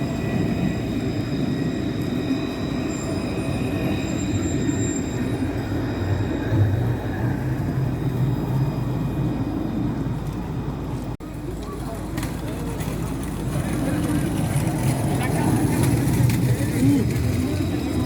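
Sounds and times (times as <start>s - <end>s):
tram wheels rumbling on rail: 0.0s - 18.0s.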